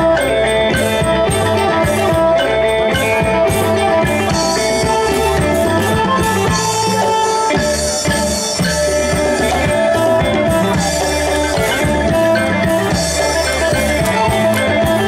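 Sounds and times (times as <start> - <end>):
folk ensemble dance music: 0.0 - 15.0
steady drum beat: 0.0 - 15.0.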